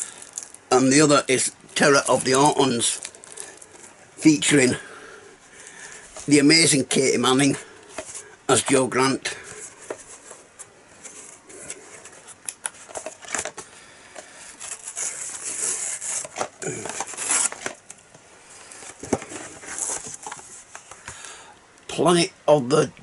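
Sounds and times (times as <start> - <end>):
cardboard packaging rustling: 0.0 - 4.8, 5.6 - 21.2.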